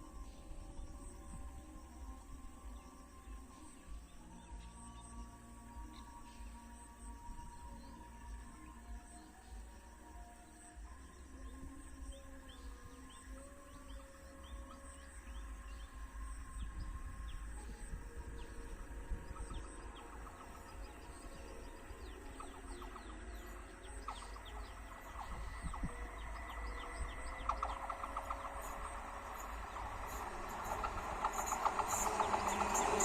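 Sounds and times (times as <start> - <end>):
birds chirping: 0.0 - 33.0
train approaching on track: 0.0 - 33.0.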